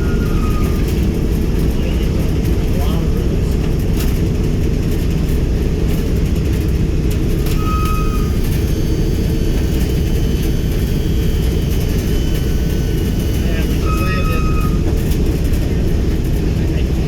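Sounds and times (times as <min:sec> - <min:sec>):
radial aircraft engines droning: 0:00.0 - 0:17.0.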